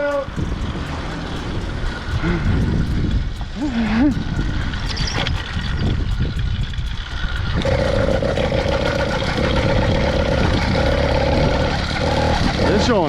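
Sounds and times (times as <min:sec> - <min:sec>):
two-stroke engine running: 0:00.0 - 0:13.0
wind rumble on microphone: 0:00.0 - 0:13.0.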